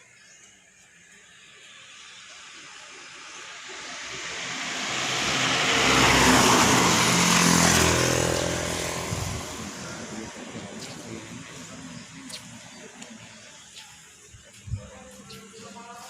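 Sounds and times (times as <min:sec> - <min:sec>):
motor vehicle passing: 0:01.0 - 0:16.0.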